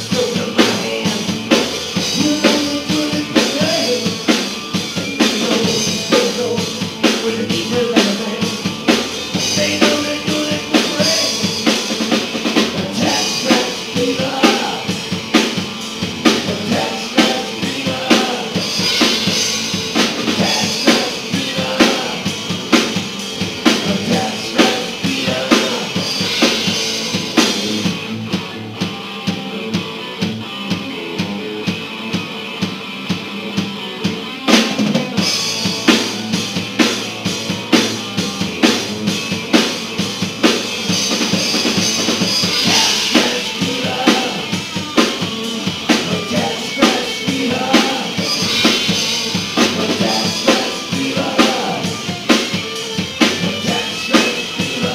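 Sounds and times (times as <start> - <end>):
drum kit steady beat: 0.0 - 54.9
electric bass: 0.0 - 54.9
electric guitar: 0.0 - 54.9.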